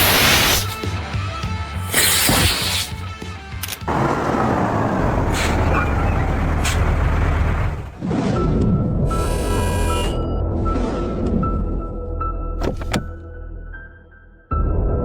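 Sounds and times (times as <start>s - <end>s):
dramatic music with low rumble: 3.0s - 15.0s.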